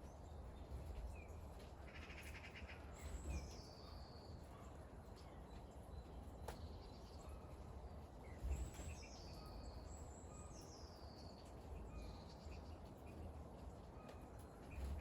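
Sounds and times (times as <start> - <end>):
faint rain: 0.0 - 15.0.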